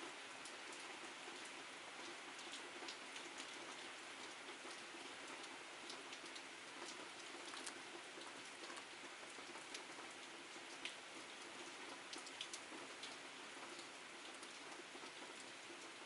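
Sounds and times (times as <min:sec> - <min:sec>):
sharp drips and ticks: 0:00.0 - 0:16.0
steady rain hissing: 0:00.0 - 0:16.0.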